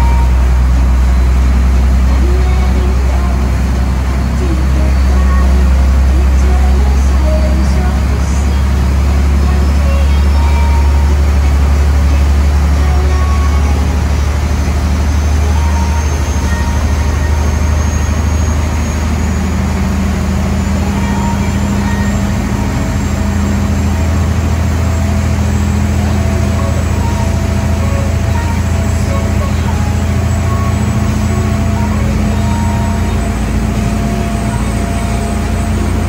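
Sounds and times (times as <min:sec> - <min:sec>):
boat engines droning: 0:00.0 - 0:36.0
churning wake rushing: 0:00.0 - 0:36.0
wind: 0:00.0 - 0:36.0.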